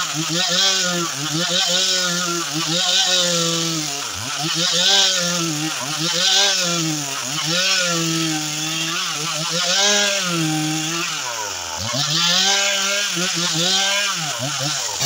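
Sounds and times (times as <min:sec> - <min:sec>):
chainsaw cutting a log: 0:00.0 - 0:15.0.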